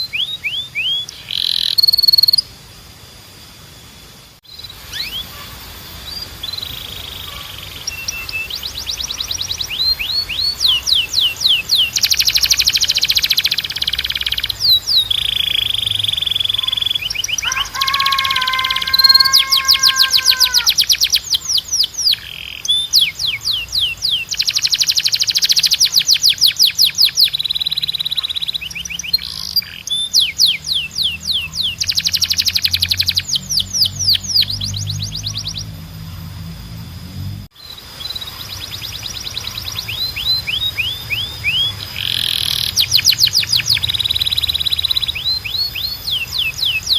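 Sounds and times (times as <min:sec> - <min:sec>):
canary singing: 0:00.0 - 0:02.6, 0:04.4 - 0:36.5, 0:37.6 - 0:46.9.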